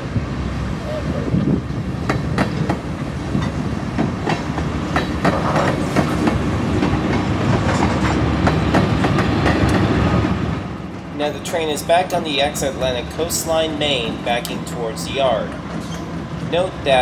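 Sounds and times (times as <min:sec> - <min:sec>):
diesel locomotive engines droning: 0:00.0 - 0:17.0
wheels clacking over rail joints: 0:01.7 - 0:17.0.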